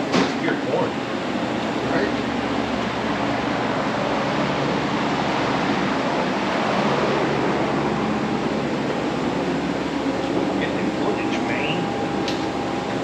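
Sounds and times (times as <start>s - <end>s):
low hum: 0.9s - 13.0s.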